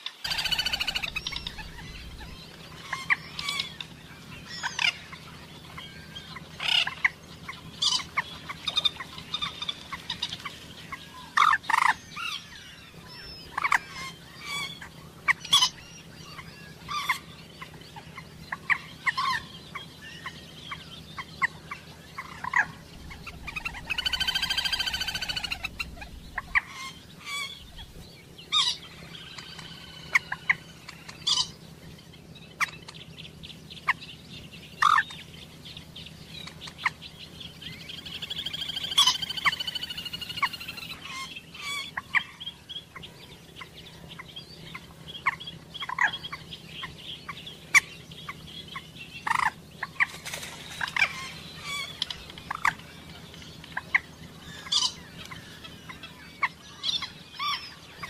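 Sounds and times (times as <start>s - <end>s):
moorhen calling: 0.2s - 50.1s, 50.8s - 58.0s.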